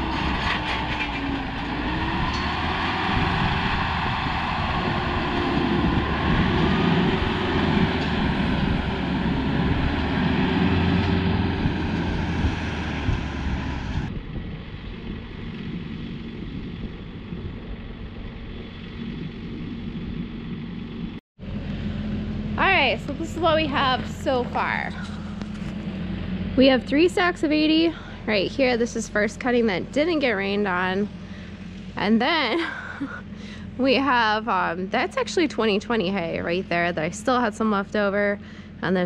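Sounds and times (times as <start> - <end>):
tractor engine running under load: 0.0 - 39.0.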